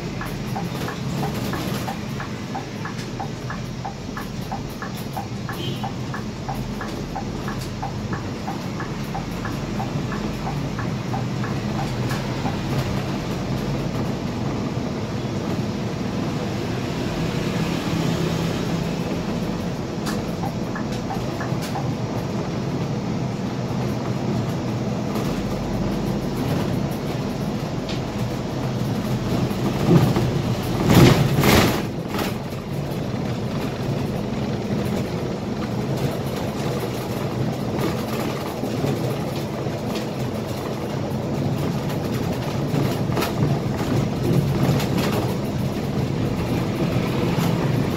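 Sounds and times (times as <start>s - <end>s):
bus engine and road drone: 0.0s - 47.9s.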